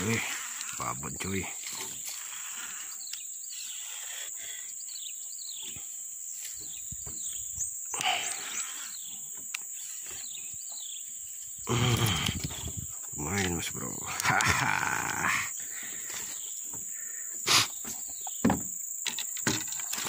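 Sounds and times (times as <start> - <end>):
bird chirps: 0.0 - 14.2, 15.1 - 18.5
high-pitched insect drone: 0.0 - 20.0.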